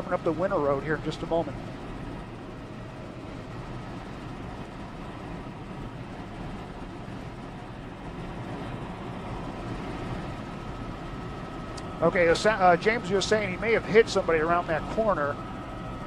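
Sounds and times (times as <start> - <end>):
helicopter rotor drone: 0.0 - 16.0.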